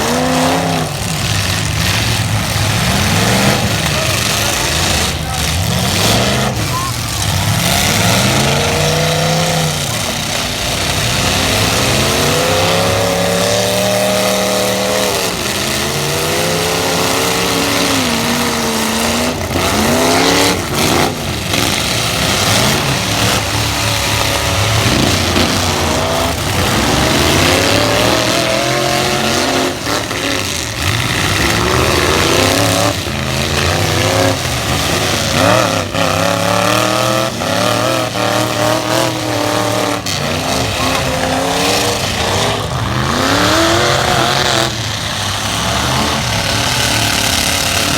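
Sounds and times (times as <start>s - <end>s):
truck engines revving: 0.0s - 47.9s.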